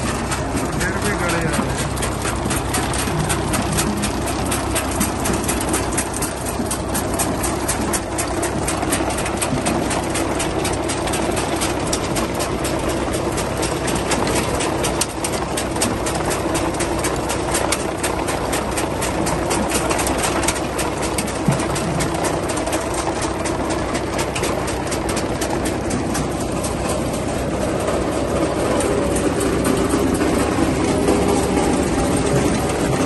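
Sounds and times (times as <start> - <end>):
conveyors rattling and clicking: 0.0 - 33.0
tractor diesel engine drone: 0.0 - 33.0.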